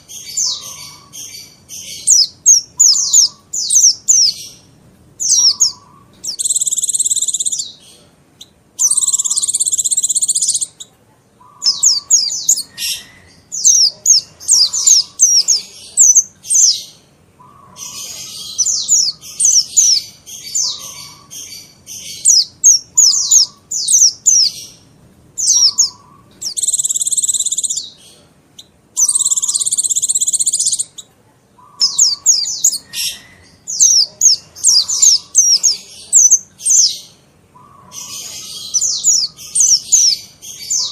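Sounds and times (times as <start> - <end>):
bird twittering: 0.0 - 40.9
buzzy bird trill: 0.0 - 40.9.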